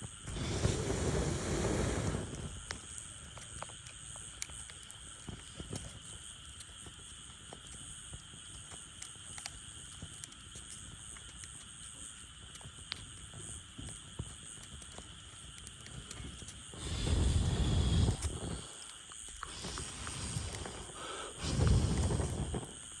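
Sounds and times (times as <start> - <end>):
faint steady hiss: 0.0 - 23.0
firewood crackling and popping: 0.0 - 23.0.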